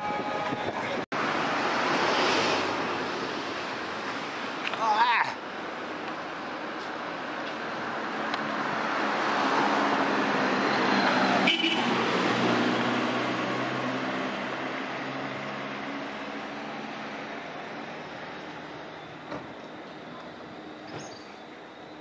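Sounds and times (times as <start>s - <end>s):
road vehicle passing by: 0.8s - 4.6s, 5.6s - 22.0s.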